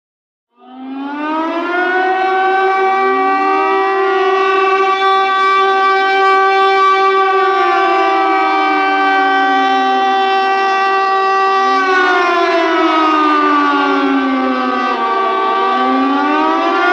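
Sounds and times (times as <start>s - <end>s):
air raid siren wailing: 0.5s - 16.9s.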